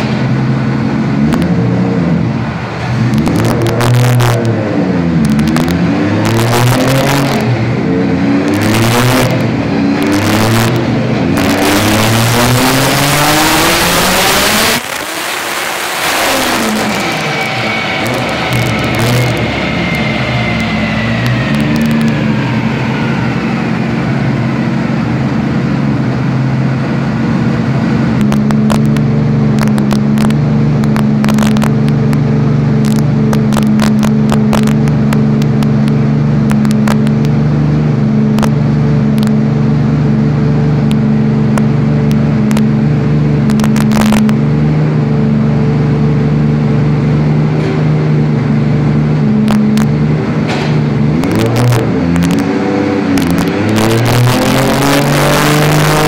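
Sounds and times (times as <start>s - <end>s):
car engine at high revs: 0.0s - 56.0s
sharp exhaust crackles: 0.0s - 56.0s.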